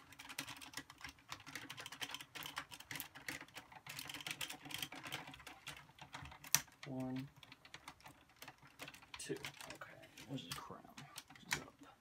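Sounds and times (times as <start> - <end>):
plastic toy parts clicking: 0.0 - 11.8.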